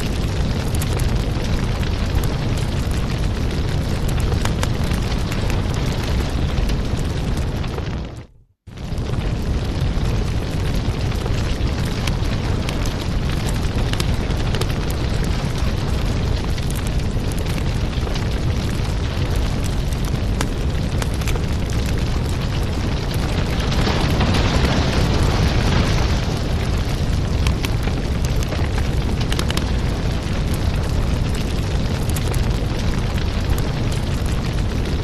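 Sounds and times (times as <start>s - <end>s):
steady low rumble: 0.0s - 35.0s
wood fire crackling and popping: 0.0s - 35.0s.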